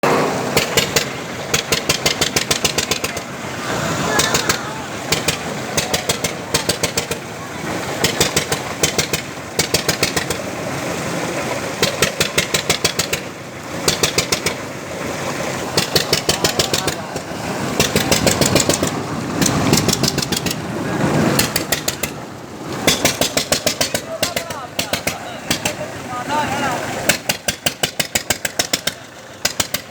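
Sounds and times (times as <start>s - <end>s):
rapid clatter: 0.0s - 3.3s, 4.2s - 10.6s, 11.7s - 14.7s, 15.6s - 26.1s, 27.0s - 29.9s
washing machine running: 0.0s - 29.9s.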